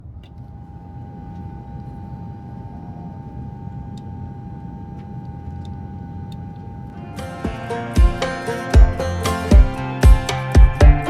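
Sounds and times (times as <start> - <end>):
high whine: 0.0 - 11.0.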